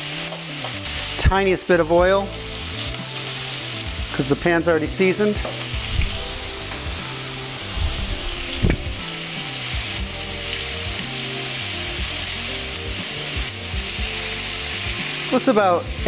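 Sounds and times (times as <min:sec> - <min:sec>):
low background music: 0:00.0 - 0:16.0
vegetables sizzling in a pan: 0:00.0 - 0:16.0.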